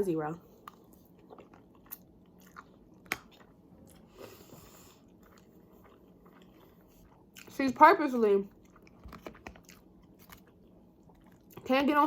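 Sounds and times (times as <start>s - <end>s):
person chewing food: 0.4s - 7.7s, 8.5s - 11.7s.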